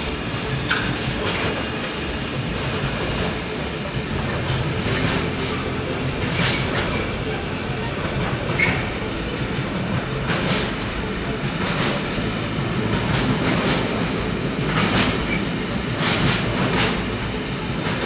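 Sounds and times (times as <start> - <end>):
train rumbling past: 0.0 - 18.0
wheels clacking over rails: 0.0 - 18.0.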